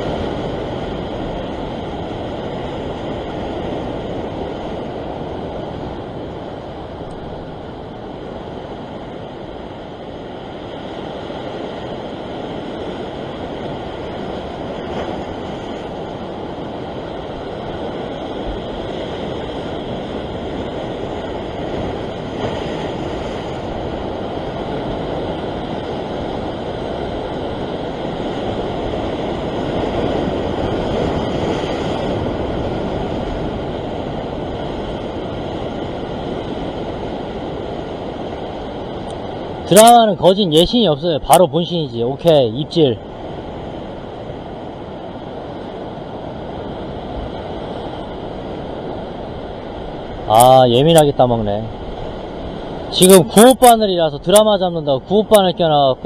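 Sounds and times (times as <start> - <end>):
ocean surf breaking on rocks: 0.0 - 56.0.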